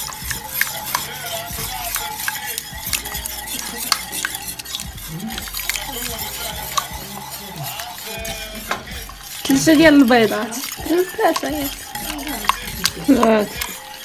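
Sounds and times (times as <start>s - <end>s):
sauce sizzling: 0.0s - 14.0s
utensil scraping a metal pot: 0.0s - 14.0s.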